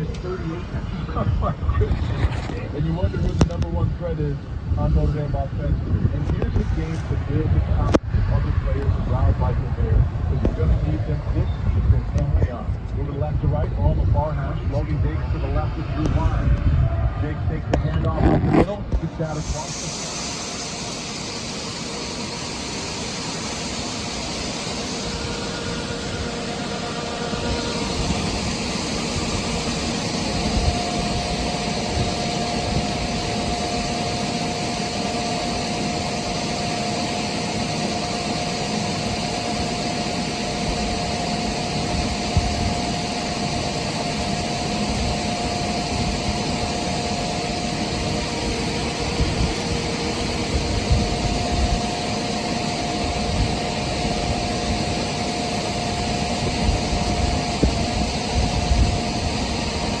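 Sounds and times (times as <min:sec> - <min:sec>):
heavy machinery engine droning: 0:00.0 - 1:00.0
steady whine: 0:00.0 - 1:00.0.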